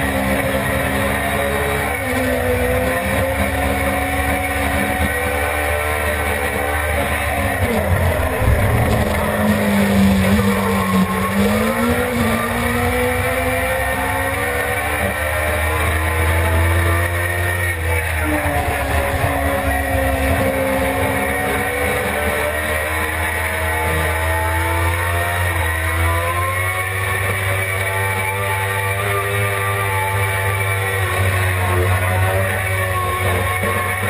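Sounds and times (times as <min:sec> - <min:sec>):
motorcycle engine running hard: 0:00.0 - 0:34.0.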